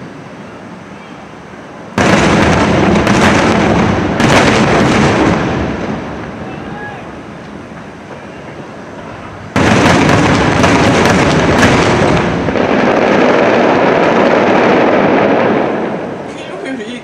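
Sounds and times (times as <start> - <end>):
fireworks rumble: 0.0 - 17.0
fireworks bursts and crackling: 1.9 - 17.0.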